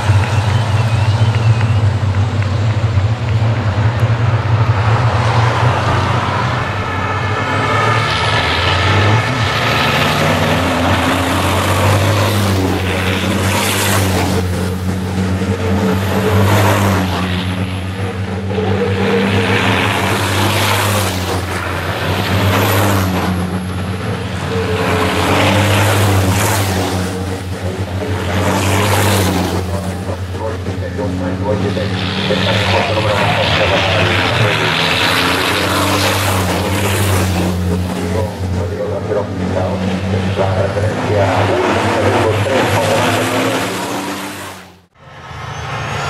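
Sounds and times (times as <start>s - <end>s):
truck diesel engines droning: 0.0s - 46.0s.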